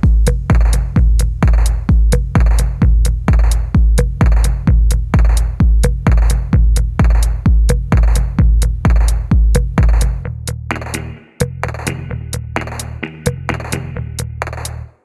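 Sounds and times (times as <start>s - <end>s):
electronic music: 0.0s - 14.9s.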